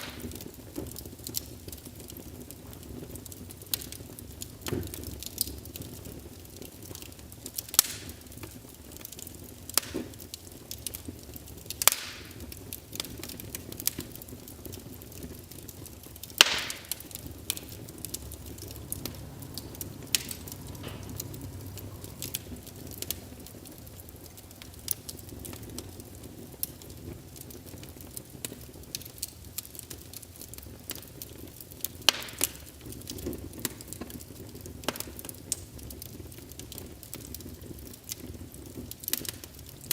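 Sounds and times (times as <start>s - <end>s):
fire crackling and popping: 0.0s - 39.9s
flames burning: 0.0s - 39.9s.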